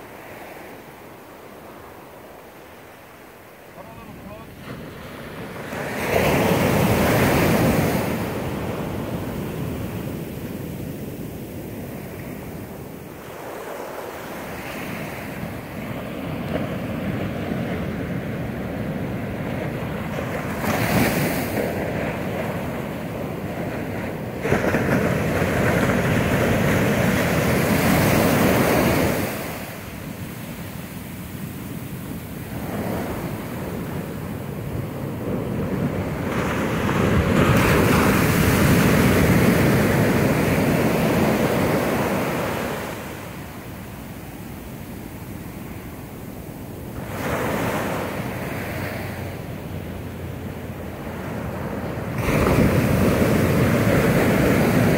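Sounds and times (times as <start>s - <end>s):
ocean surf breaking on beach: 0.0s - 54.9s
wind buffeting microphone: 4.6s - 54.9s.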